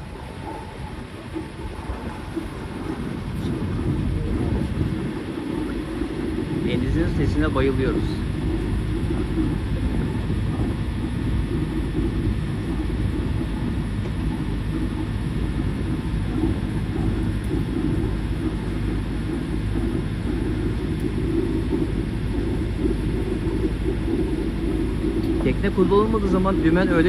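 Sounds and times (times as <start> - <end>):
boat engine low rumble: 0.0 - 27.0.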